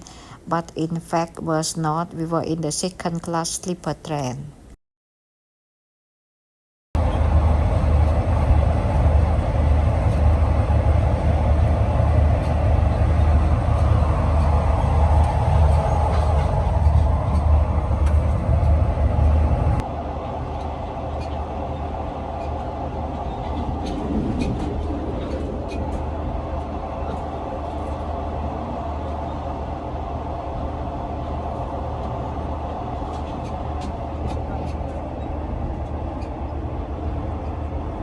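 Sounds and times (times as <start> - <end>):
train wheels rumbling on rails: 7.0 - 38.0.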